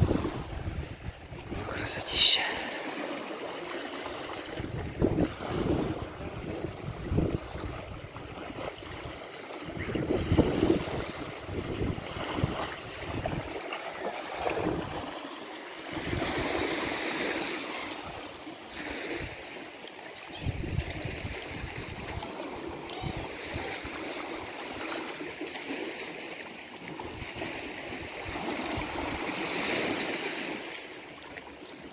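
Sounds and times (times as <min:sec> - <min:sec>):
waves washing over pebbles: 0:00.0 - 0:31.9.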